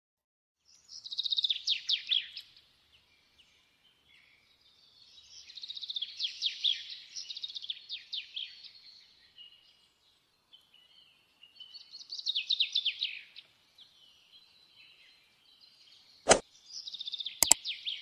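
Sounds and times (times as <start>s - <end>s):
small birds chirping and twittering: 0.6s - 18.0s.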